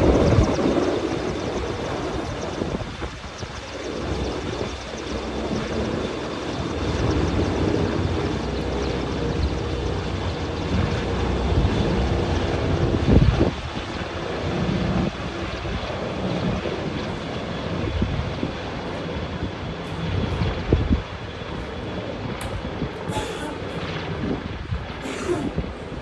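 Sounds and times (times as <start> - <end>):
helicopter rotor and turbine drone: 0.0 - 26.0
wind on microphone: 0.0 - 26.0.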